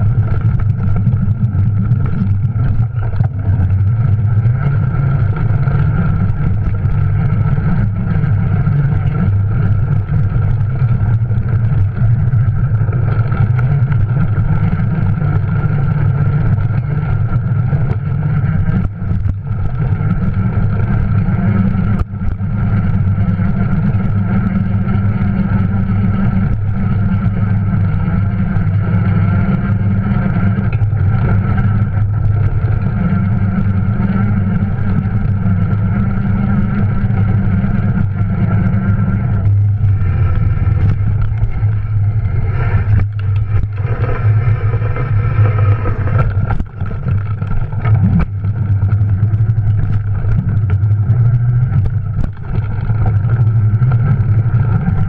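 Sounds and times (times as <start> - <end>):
bike rumbling over dirt trail: 0.0 - 55.0
electric bike motor hum and whine: 0.0 - 55.0.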